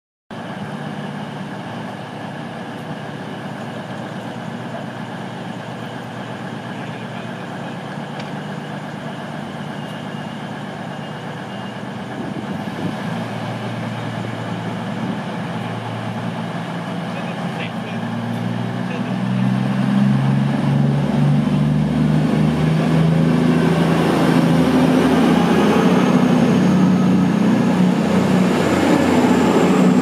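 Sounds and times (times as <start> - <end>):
train diesel engines idling: 0.3 - 30.0.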